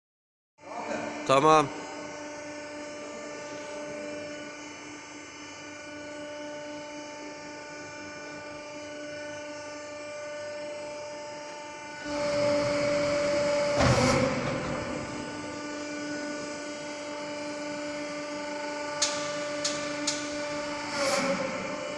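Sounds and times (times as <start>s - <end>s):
truck engine and hydraulic whine: 0.6s - 21.9s
compactor working: 0.8s - 21.9s.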